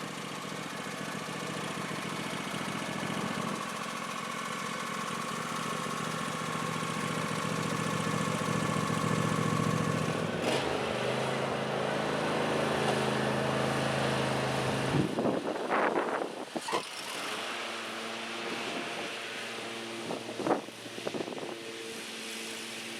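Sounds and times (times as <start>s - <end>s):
lawn tractor engine running: 0.0s - 22.9s.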